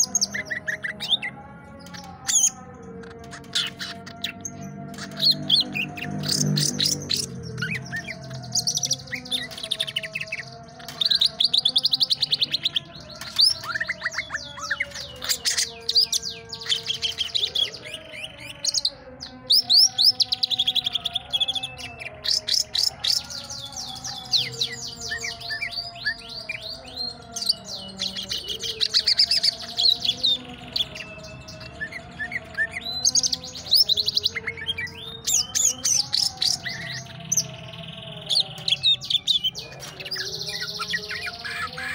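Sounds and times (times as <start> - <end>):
bird singing high chirps and trills: 0.0 - 41.9.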